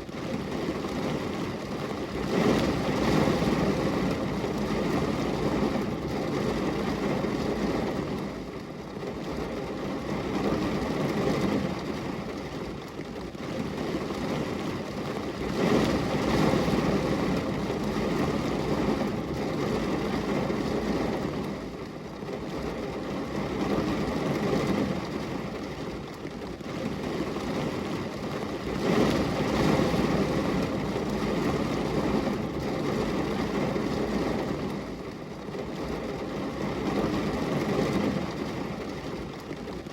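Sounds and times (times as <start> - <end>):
rain on a glass window: 0.0 - 39.9.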